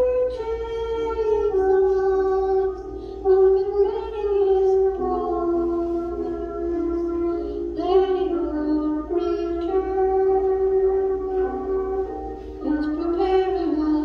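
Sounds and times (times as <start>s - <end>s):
high voice singing long notes: 0.0s - 14.0s.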